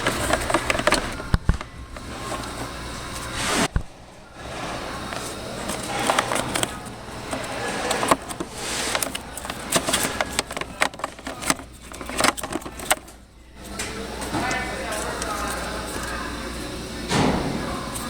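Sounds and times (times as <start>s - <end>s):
plastic clicks and scrapes: 0.0s - 18.0s
plastic rustling: 0.0s - 18.0s.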